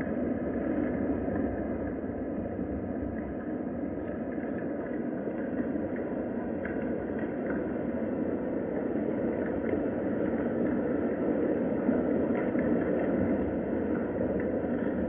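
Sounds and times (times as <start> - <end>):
muffled steady rain: 0.0 - 15.0.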